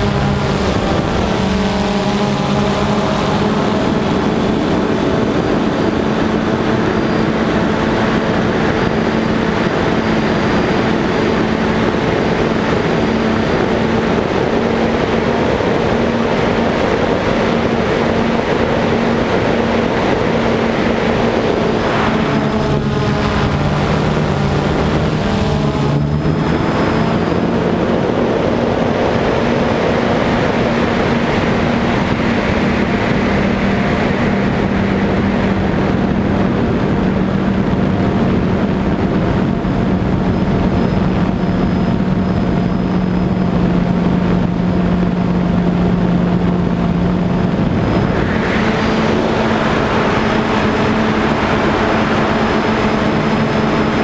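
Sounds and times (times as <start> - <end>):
drone propellers buzzing: 0.0 - 54.0.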